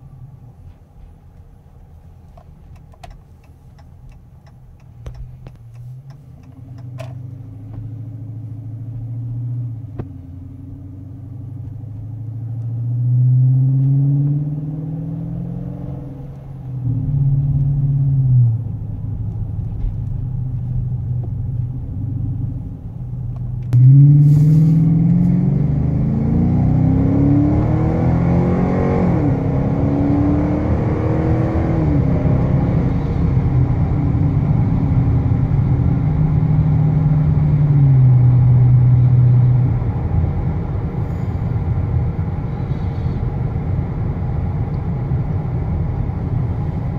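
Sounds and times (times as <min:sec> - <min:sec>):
car engine accelerating from inside: 0:05.0 - 0:46.9.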